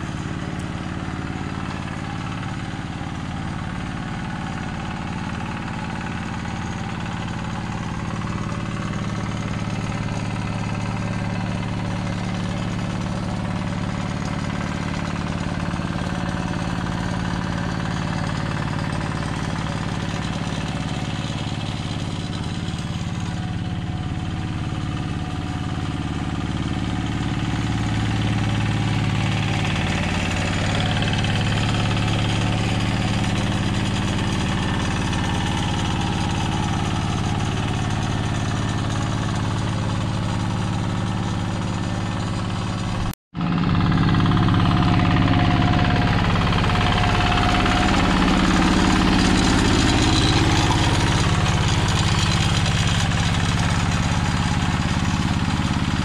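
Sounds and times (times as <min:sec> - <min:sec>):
hand tractor diesel engine: 0:00.0 - 0:56.0.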